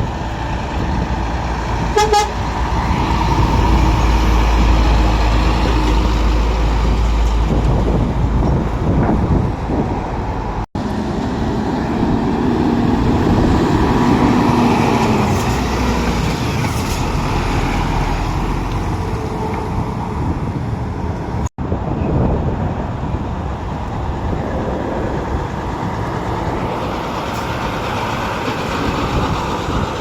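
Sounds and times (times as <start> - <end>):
heavy vehicle engine passing: 0.0 - 30.0
road traffic tyre noise: 0.0 - 30.0.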